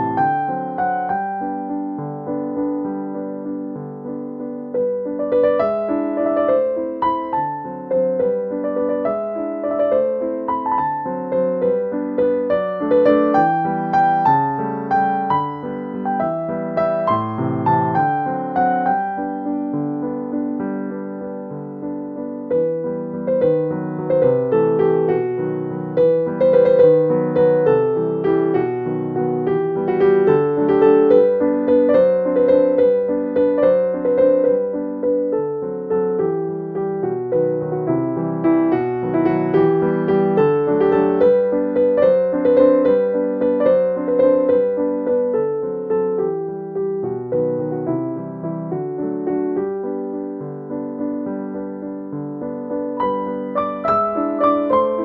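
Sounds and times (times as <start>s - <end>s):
piano melody: 0.0s - 55.0s.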